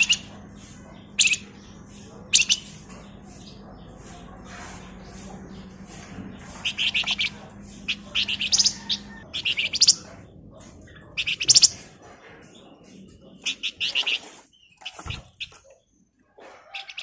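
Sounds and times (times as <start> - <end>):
bird chattering song: 0.0 - 17.0.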